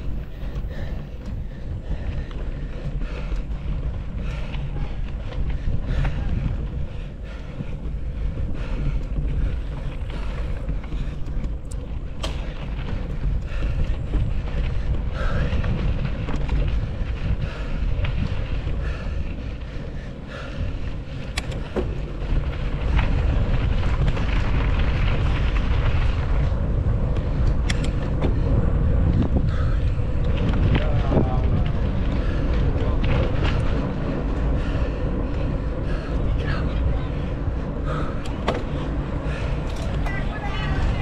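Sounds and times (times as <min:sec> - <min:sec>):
bike clicks and knocks: 0:00.0 - 0:36.6, 0:37.9 - 0:41.0
wind buffeting microphone: 0:00.0 - 0:41.0.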